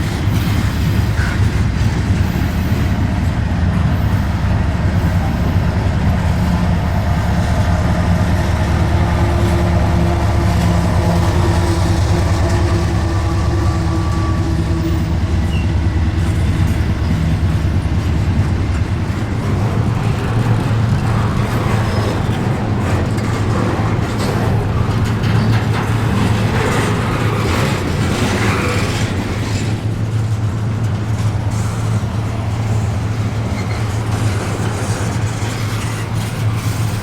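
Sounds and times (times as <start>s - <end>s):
diesel locomotive rumble: 0.0s - 37.0s
rail cars rattling: 0.0s - 37.0s.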